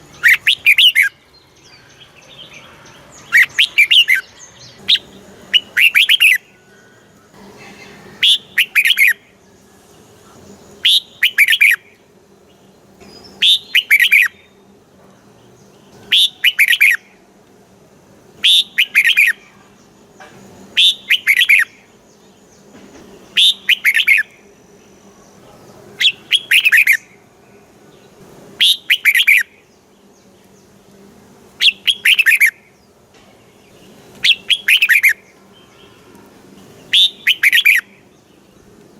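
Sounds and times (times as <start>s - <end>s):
bird singing chirping phrase: 0.0s - 14.7s, 15.4s - 17.2s, 18.4s - 30.8s, 31.6s - 38.7s.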